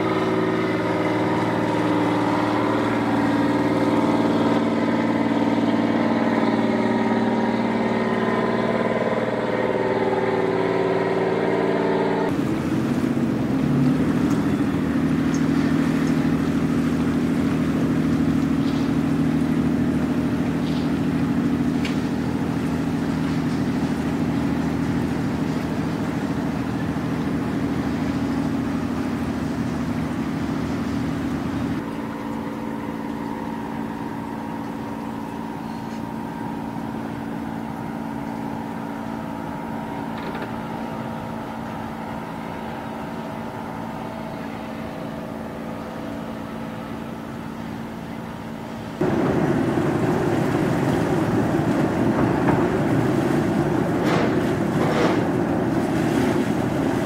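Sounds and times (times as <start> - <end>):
speedboat engine running: 0.0 - 57.0.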